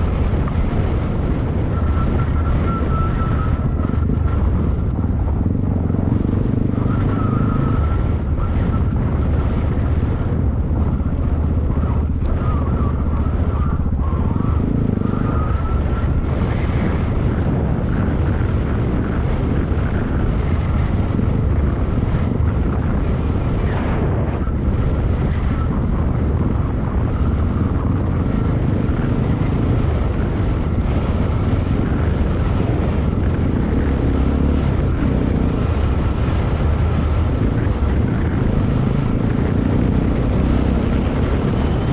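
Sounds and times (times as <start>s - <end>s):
motorcycle engine running: 0.0s - 41.9s
wind noise on microphone: 0.0s - 41.9s.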